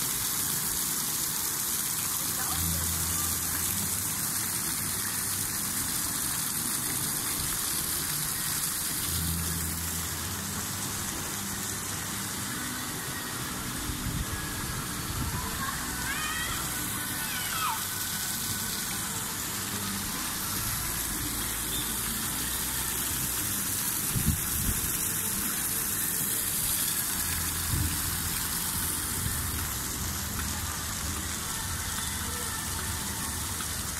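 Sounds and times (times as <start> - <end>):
fountain water splashing into pool: 0.0 - 33.9.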